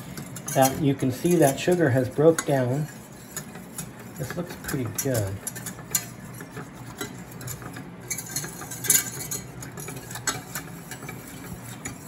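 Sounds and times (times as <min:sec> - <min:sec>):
utensil clinking against pan: 0:00.0 - 0:12.0
utensil stirring in saucepan: 0:00.0 - 0:12.0.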